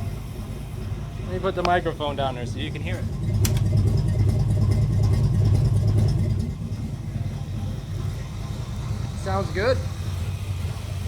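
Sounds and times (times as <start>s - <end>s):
car engine idling with misfire: 0.0s - 11.0s.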